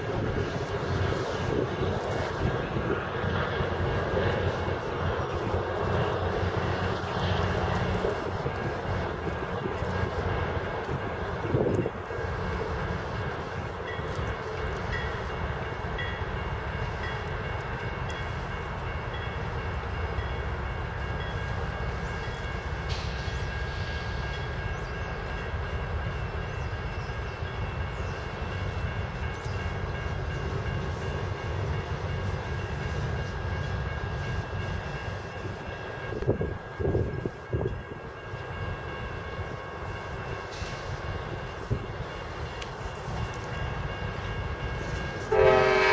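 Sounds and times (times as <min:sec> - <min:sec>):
diesel locomotive engines rumbling: 0:00.0 - 0:45.9.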